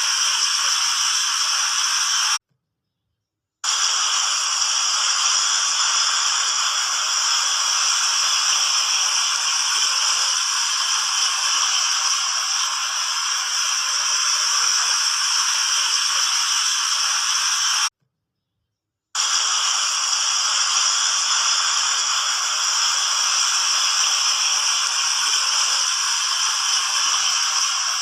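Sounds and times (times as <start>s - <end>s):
fountain water splashing: 3.7s - 17.9s, 19.2s - 28.0s.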